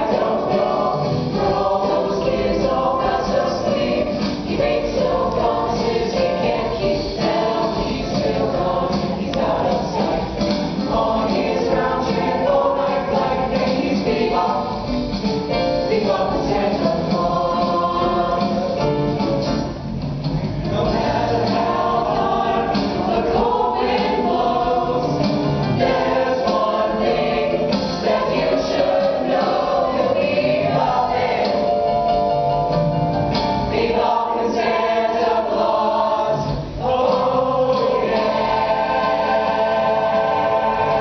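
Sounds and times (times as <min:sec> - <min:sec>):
young choir singing: 0:00.0 - 0:19.0, 0:20.6 - 0:32.0, 0:33.7 - 0:41.0.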